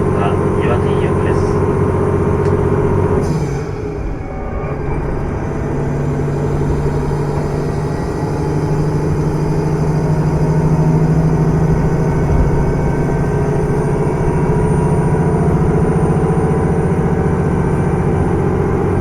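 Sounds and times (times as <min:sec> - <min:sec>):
railcar diesel engine throbbing: 0:00.0 - 0:19.0.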